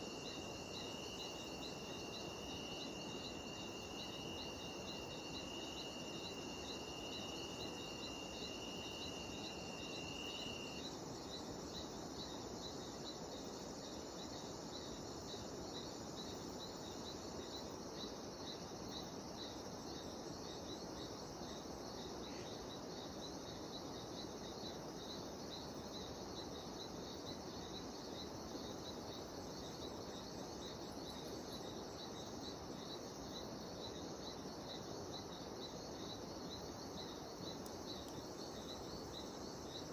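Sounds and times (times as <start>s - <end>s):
cicadas pulsing trill: 0.0s - 39.9s.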